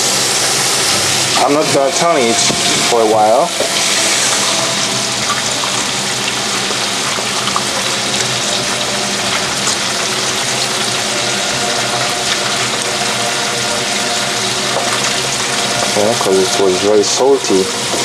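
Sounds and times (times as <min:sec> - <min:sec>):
onions rinsed in a colander: 0:00.0 - 0:18.0
tap water running: 0:00.0 - 0:18.0.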